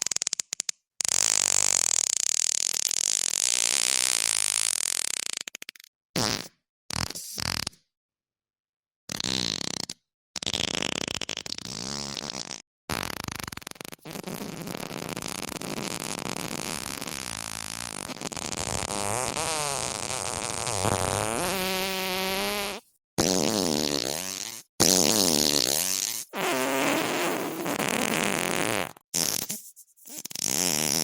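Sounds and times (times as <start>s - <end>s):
fart sound effects: 0.0s - 7.8s, 9.1s - 31.0s.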